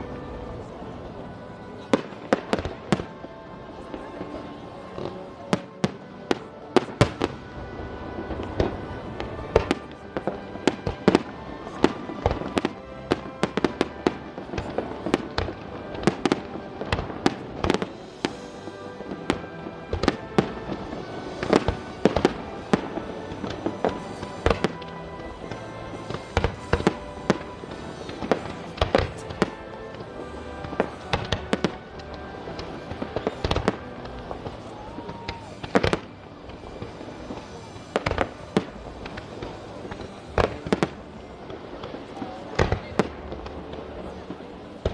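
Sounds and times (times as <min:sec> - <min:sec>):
fireworks bangs: 0:00.0 - 0:44.9
music playing: 0:00.0 - 0:44.9.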